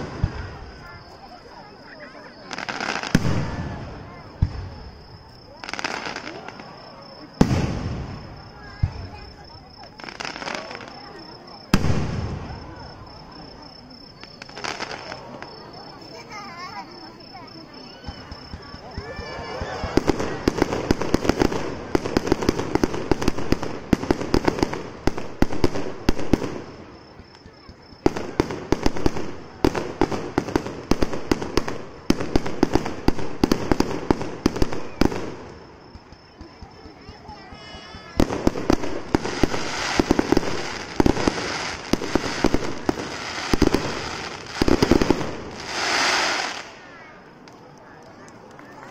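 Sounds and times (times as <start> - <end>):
fireworks sharp cracks: 0.0 - 1.6, 2.4 - 48.9
fireworks hissing: 0.0 - 47.0.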